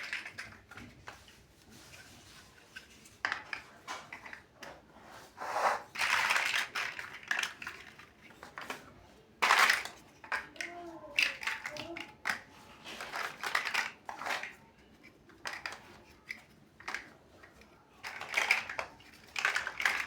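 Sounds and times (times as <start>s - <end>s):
plastic bricks clicking and clattering: 0.0s - 1.3s, 2.7s - 4.8s, 5.8s - 20.0s.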